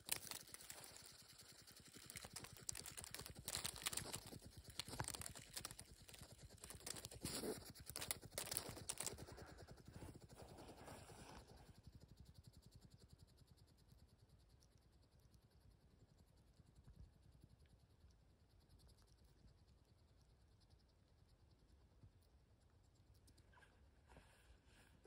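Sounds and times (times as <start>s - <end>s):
hedgehog clicking and puffing: 0.0s - 24.2s.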